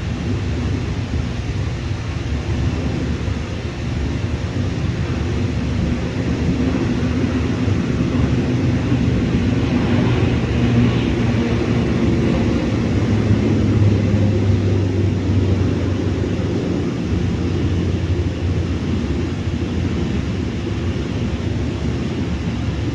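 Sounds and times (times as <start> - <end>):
airliner engines rumbling: 0.0 - 22.9.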